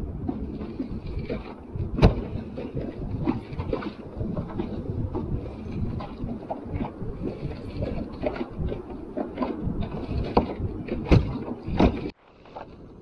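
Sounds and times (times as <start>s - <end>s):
kayak knocks: 0.0s - 12.1s
water noise: 0.0s - 13.0s.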